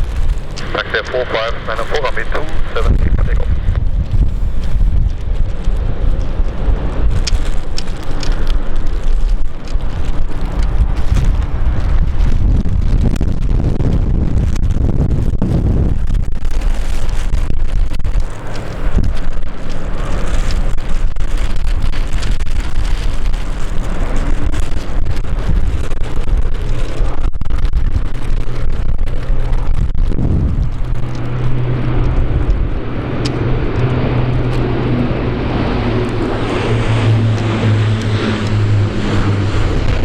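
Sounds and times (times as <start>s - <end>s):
propeller drone: 0.0s - 40.0s
wind buffeting microphone: 0.0s - 40.0s.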